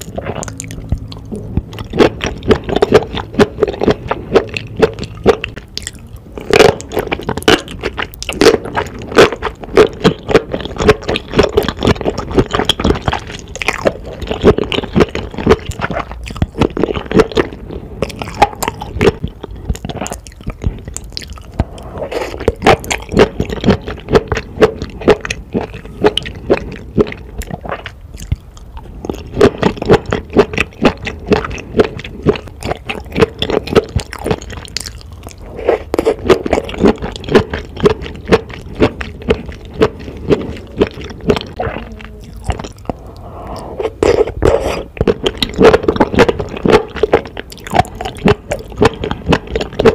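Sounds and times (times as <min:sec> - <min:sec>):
wet chewing: 0:00.0 - 0:49.9.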